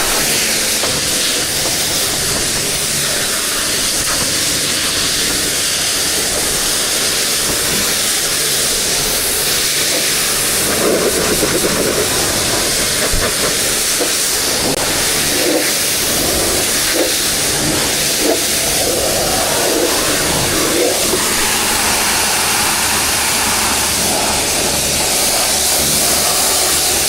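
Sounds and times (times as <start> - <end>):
pressure washer spraying water: 0.0 - 27.0.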